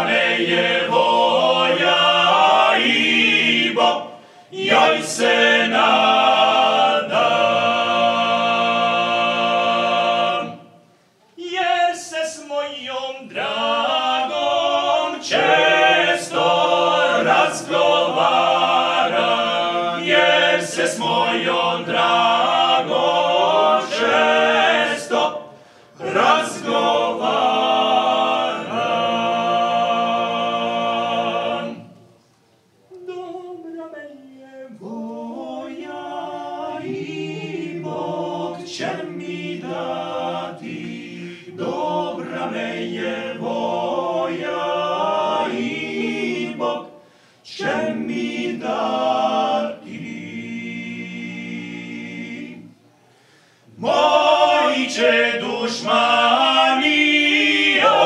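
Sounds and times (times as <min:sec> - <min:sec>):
unaccompanied choir singing: 0:00.0 - 0:32.2, 0:32.9 - 0:58.0.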